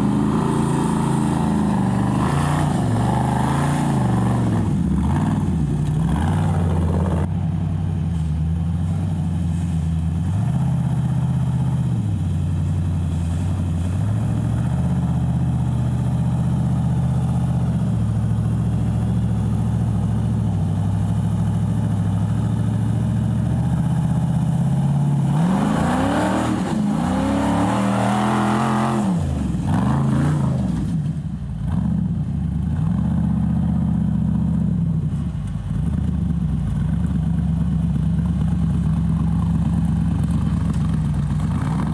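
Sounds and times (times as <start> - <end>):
buggy engine running and revving: 0.0 - 41.9.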